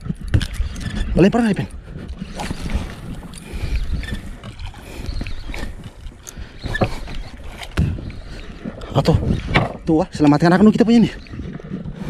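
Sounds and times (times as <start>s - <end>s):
water sloshing around boat: 0.0s - 12.0s
wind rumbling on microphone: 0.0s - 12.0s.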